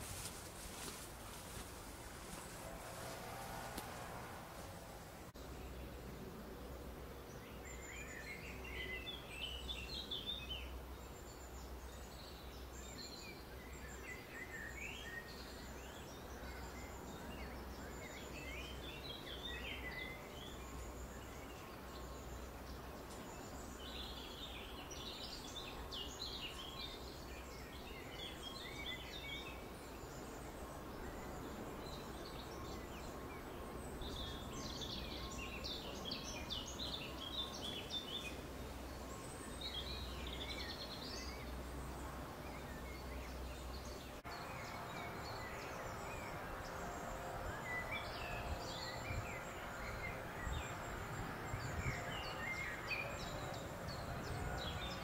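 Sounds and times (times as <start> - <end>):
songbirds chirping: 0.0 - 55.0
steady background hiss: 0.0 - 55.0.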